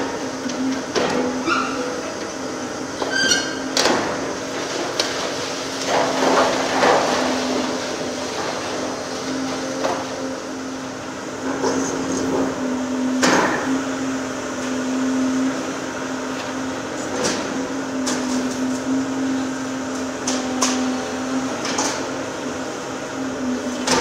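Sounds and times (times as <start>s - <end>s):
excavator engine hum: 0.0s - 24.0s.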